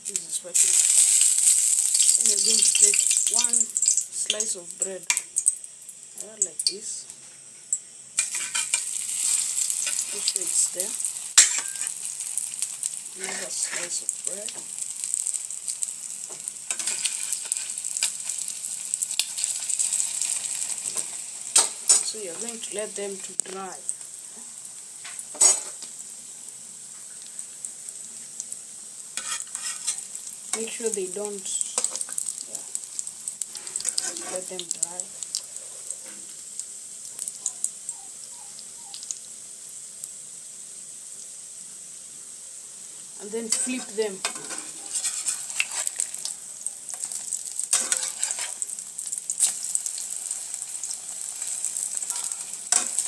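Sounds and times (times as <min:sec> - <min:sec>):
bread sizzling in hot oil: 0:00.0 - 0:53.0.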